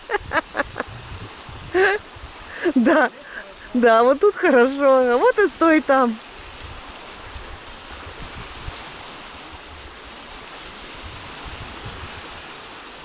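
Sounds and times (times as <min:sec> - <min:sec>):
surf washing onto pebble beach: 0:00.0 - 0:13.0.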